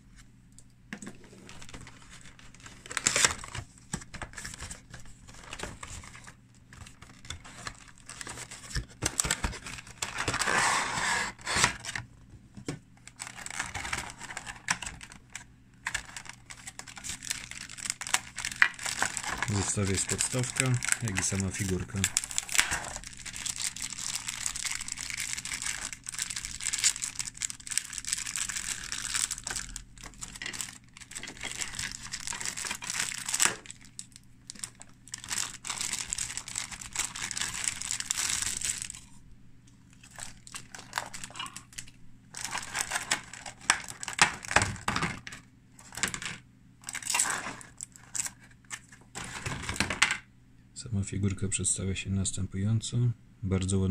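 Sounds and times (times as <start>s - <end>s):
plastic packaging crinkling: 1.0s - 12.1s, 13.0s - 39.2s, 39.8s - 50.0s.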